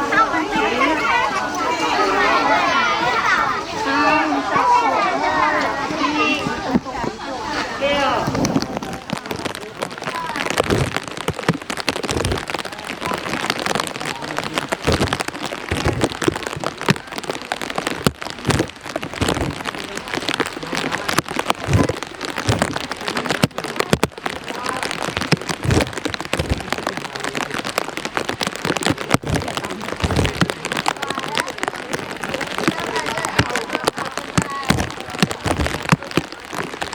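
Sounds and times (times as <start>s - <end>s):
heavy rain hissing: 0.0s - 36.9s
raindrops tapping a surface: 0.6s - 36.9s.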